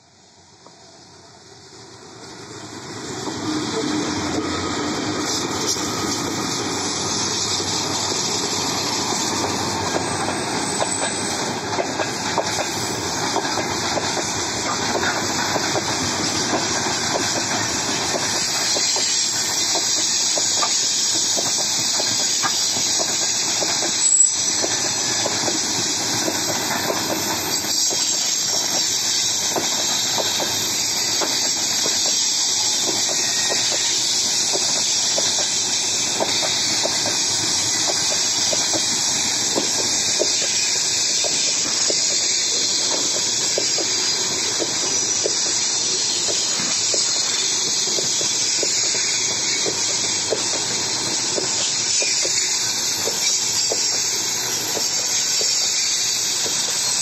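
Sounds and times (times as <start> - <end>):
train wheels rumbling on rails: 0.0 - 57.0
wheels clacking over rail joints: 5.1 - 56.8.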